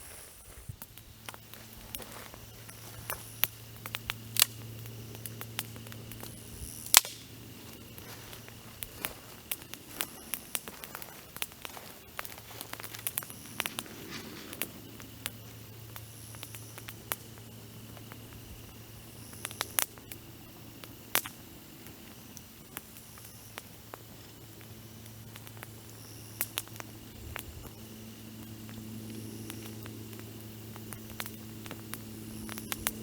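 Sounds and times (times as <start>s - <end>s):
campfire crackling and popping: 0.7s - 33.0s.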